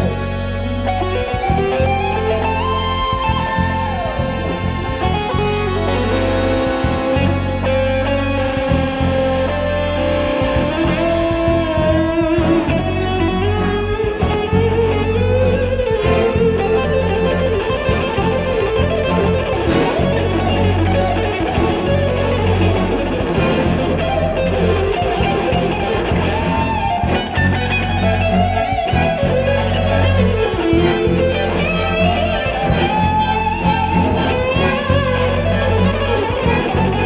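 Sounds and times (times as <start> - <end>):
chamber orchestra: 0.0 - 37.0
electric guitar solo: 0.0 - 37.0
low bass notes: 0.0 - 37.0.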